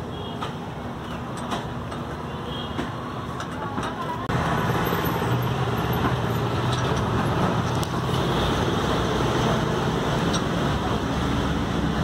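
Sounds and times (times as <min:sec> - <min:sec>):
road traffic: 0:00.0 - 0:12.0
vehicle engine running nearby: 0:00.4 - 0:12.0.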